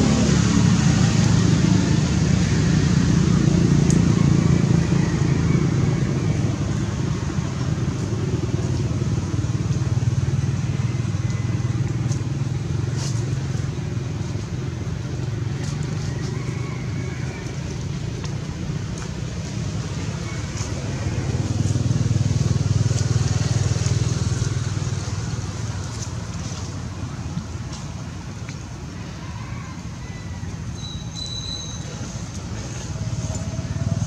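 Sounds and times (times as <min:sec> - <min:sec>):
vehicle engine running: 0:00.0 - 0:28.9, 0:31.3 - 0:34.0.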